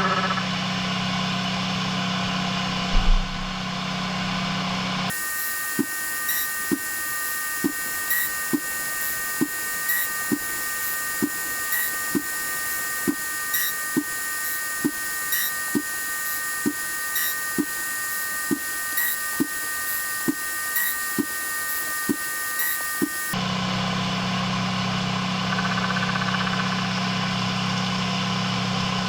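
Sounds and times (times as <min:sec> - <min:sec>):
milling machine high whine: 0:00.0 - 0:29.0.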